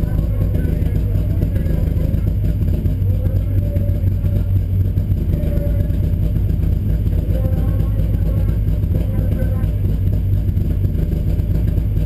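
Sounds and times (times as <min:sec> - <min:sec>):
race car engine idling: 0:00.0 - 0:12.0.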